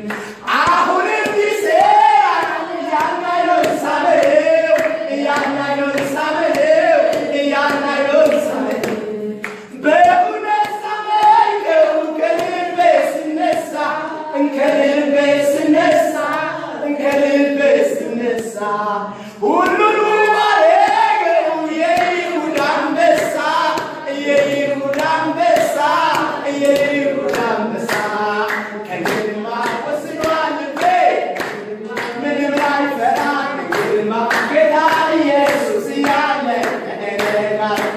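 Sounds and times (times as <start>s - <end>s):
group singing worship song: 0.0s - 37.9s
rhythmic hand clapping: 0.0s - 37.9s.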